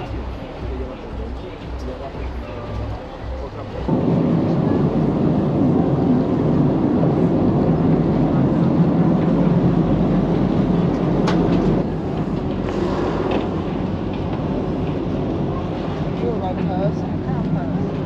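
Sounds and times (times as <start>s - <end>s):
ferry engine droning: 0.0s - 18.0s.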